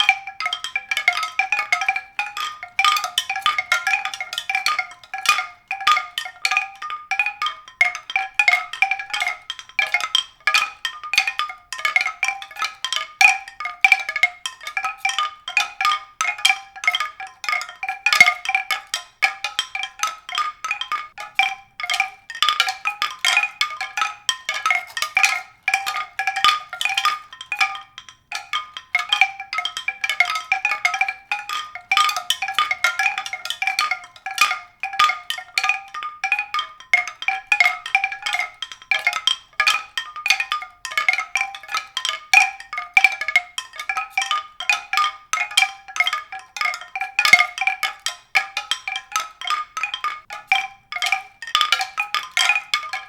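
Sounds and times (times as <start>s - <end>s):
pitched percussion ringing notes: 0.0s - 53.0s.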